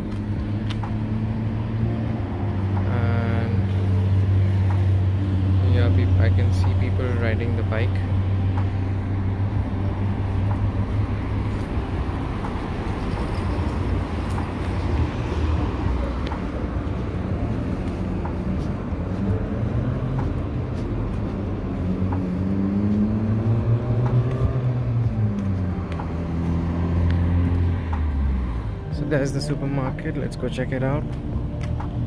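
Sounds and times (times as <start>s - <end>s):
vehicle engines humming: 0.0s - 32.0s.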